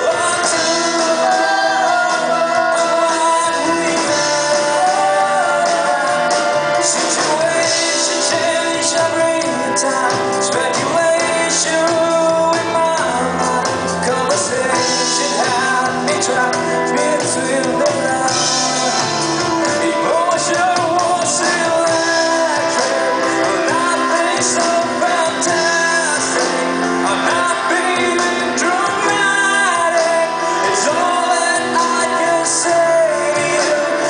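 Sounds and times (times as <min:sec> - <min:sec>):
live band playing pop-rock: 0:00.0 - 0:34.0
person singing: 0:00.0 - 0:34.0.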